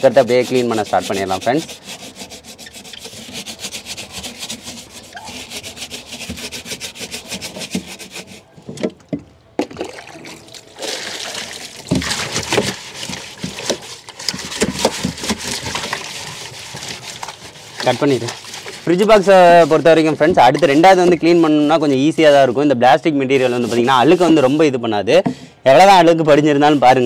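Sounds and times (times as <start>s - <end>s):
scrub pad scouring plastic: 0.0s - 8.5s, 10.7s - 24.9s.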